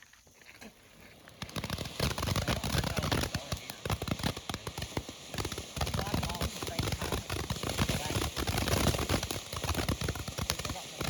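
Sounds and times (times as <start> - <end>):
firework crackling: 0.8 - 11.0.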